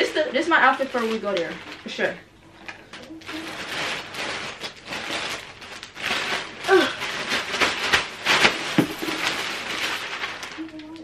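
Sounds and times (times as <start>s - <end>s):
plastic bag rustling: 0.0s - 11.0s.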